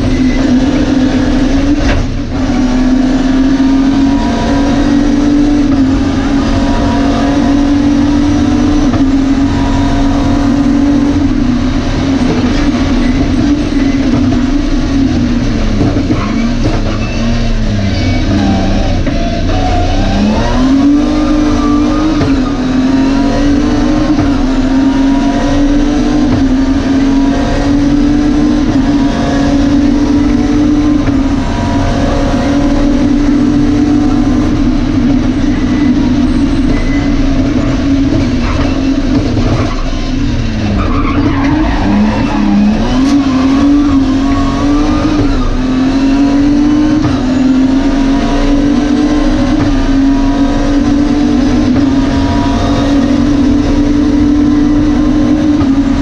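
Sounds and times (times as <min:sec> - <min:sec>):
car engine at high revs: 0:00.0 - 0:56.0
constant rushing noise: 0:00.0 - 0:56.0.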